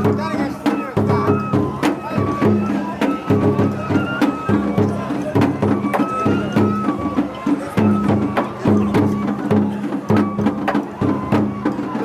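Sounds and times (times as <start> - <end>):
bamboo flute held notes: 0.0 - 12.0
repeating drum strikes: 0.0 - 12.0.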